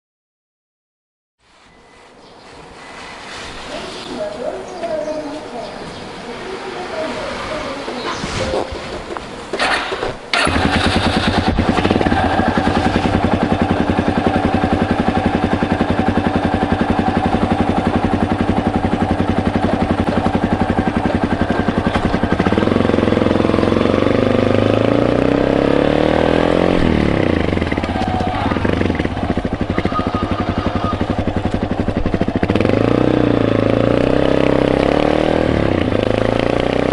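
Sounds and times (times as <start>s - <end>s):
motorcycle engine revving: 6.9s - 36.9s.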